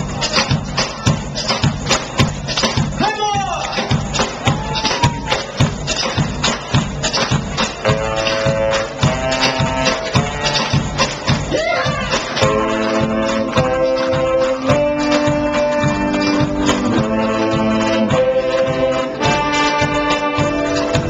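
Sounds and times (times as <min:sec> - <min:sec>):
live band music: 0:00.0 - 0:21.0.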